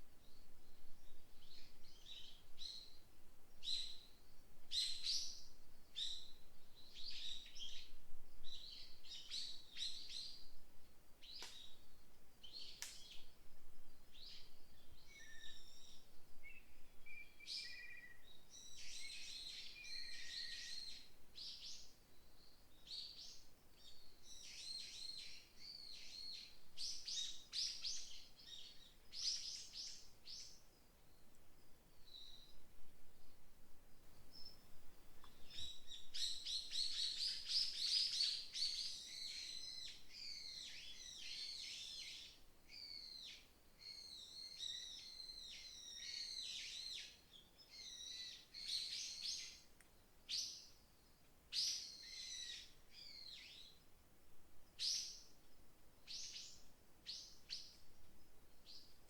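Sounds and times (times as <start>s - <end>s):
faint breeze: 0.0s - 59.0s.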